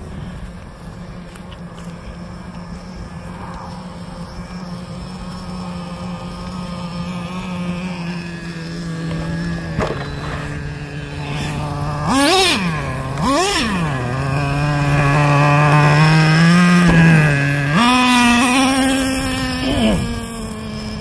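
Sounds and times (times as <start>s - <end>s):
model engine idling and revving: 0.0s - 21.0s.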